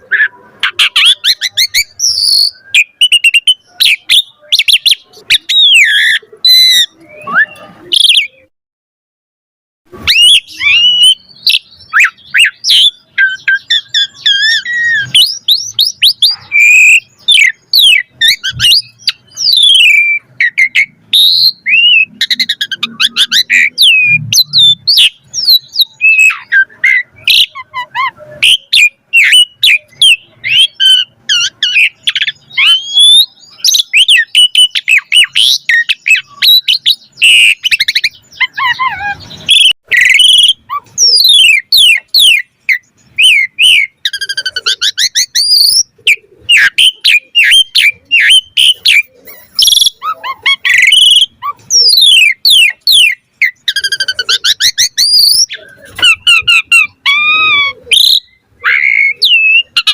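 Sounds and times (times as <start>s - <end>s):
starling singing varied song: 0.0s - 8.5s, 9.9s - 59.9s.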